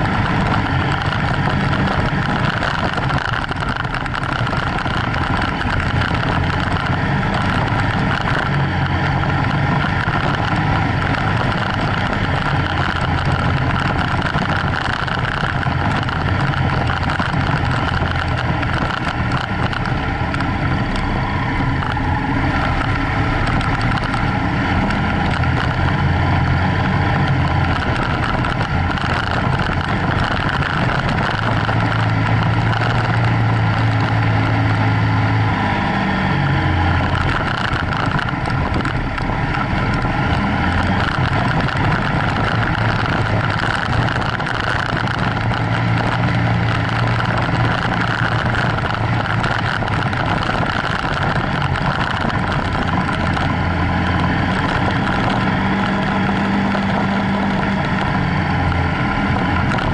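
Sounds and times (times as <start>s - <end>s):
motorcycle engine running: 0.0s - 59.9s
tyres on gravel: 0.0s - 59.9s.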